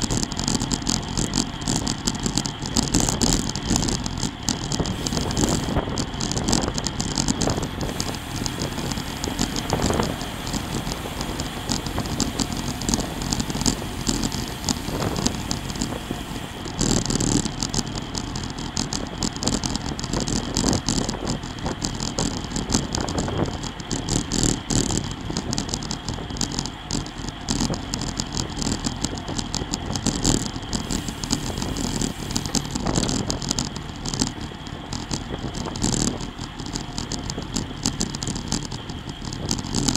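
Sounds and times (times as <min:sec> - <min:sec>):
bike clicks and rattles: 0:00.0 - 0:39.9
tyre road noise: 0:00.0 - 0:39.9
wind rushing on microphone: 0:00.0 - 0:39.9.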